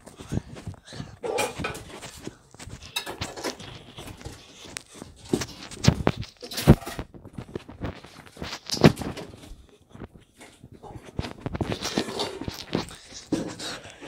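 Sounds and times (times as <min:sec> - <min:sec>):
running footsteps on floor: 0:00.0 - 0:14.0.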